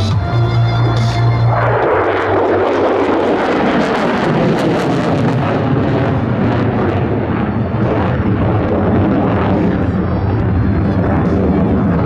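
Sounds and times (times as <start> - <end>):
jet engine afterburner roar: 0.0 - 12.0.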